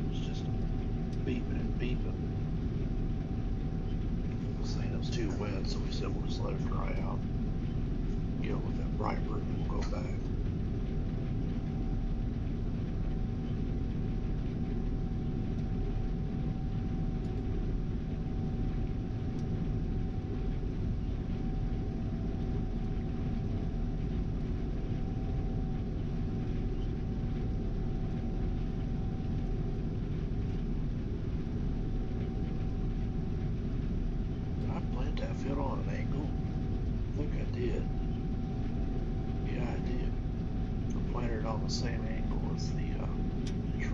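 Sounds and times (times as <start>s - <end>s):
combine harvester engine drone: 0.0s - 43.9s
thin steady whine: 0.0s - 43.9s.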